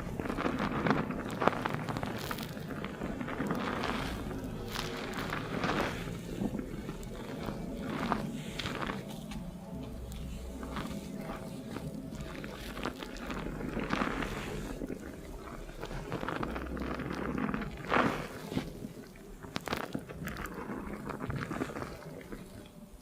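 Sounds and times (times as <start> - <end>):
hands scrubbing lathered scalp: 0.0 - 22.7
wet foam squishing: 0.0 - 23.0.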